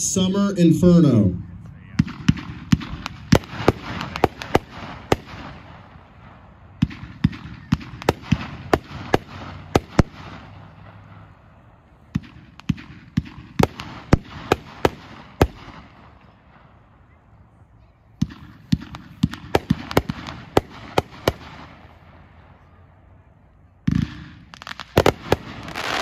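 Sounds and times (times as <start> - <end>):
firework bangs: 1.7 - 17.2, 18.1 - 22.8, 23.8 - 26.0.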